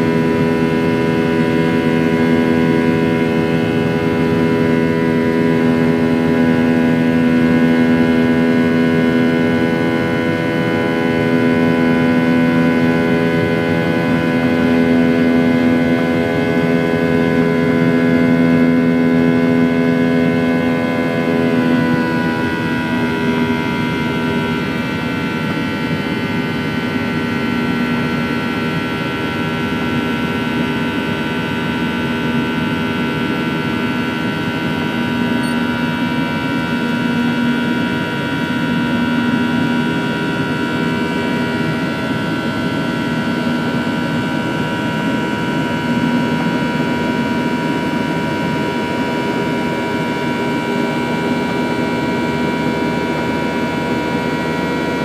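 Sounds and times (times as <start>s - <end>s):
jet engines heard from cabin: 0.0s - 55.0s
whining tones: 0.0s - 55.0s.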